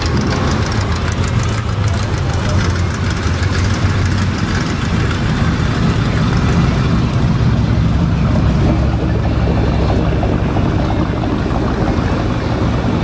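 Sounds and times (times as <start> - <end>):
car engines rumbling past: 0.0 - 13.0.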